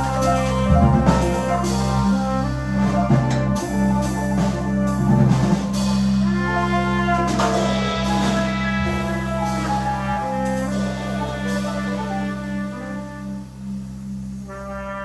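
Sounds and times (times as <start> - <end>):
jazz quartet playing live: 0.0 - 15.0.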